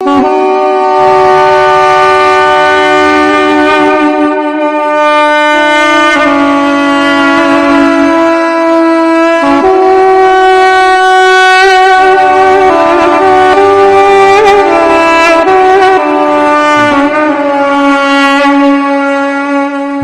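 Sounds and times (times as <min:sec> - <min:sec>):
duduk playing long notes: 0:00.0 - 0:20.0.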